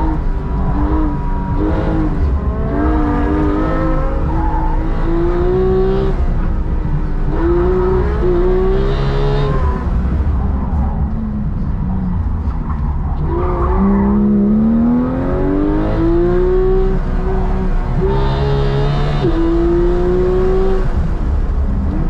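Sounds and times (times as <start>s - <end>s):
racing car engine accelerating: 0.0s - 22.0s.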